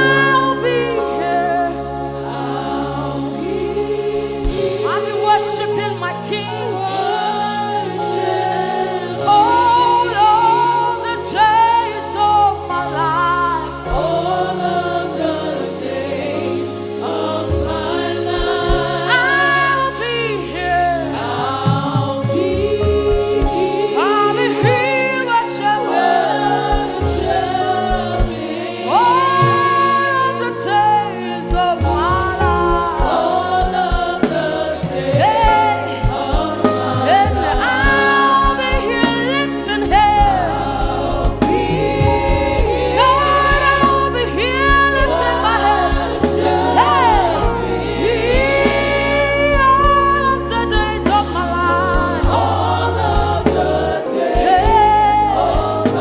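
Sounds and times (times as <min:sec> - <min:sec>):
band accompaniment: 0:00.0 - 0:56.0
bass line: 0:00.0 - 0:56.0
choir singing: 0:00.0 - 0:56.0
lead singer: 0:00.0 - 0:56.0.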